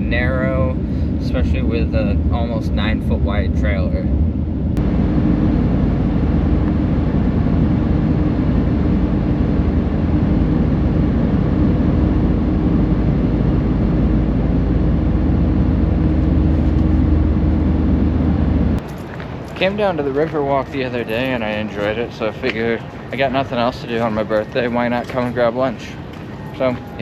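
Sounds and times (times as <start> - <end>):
constant low hum: 0.0 - 27.0
vehicle road and engine rumble: 0.0 - 27.0.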